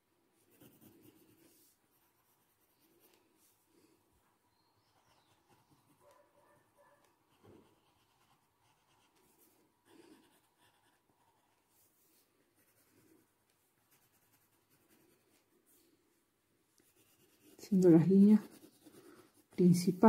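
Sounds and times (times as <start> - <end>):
pencil scratching on paper: 0.4 - 3.6, 4.8 - 15.8, 16.8 - 20.0.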